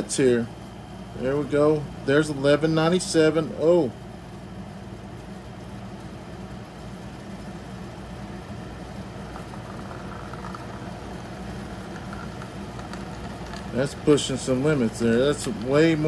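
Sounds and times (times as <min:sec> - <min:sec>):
cooling fans humming: 0:00.0 - 0:16.0.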